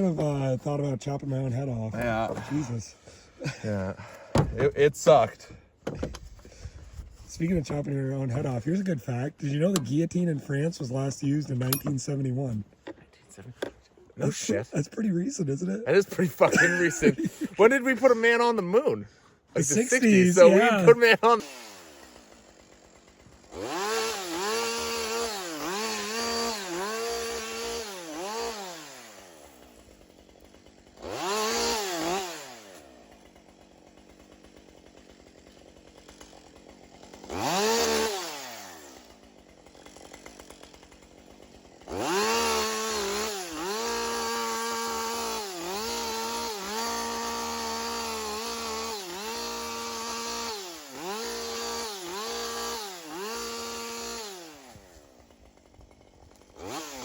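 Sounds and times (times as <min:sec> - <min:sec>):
chainsaw revving and idling: 0:00.0 - 0:05.4, 0:07.4 - 0:12.6, 0:14.2 - 0:57.0
chainsaw cutting wood: 0:00.0 - 0:13.0, 0:15.9 - 0:57.0.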